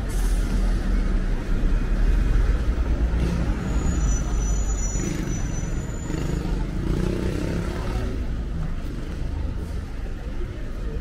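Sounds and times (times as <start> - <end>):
large vehicle engine rumbling: 0.0 - 11.0
street traffic noise: 0.0 - 11.0.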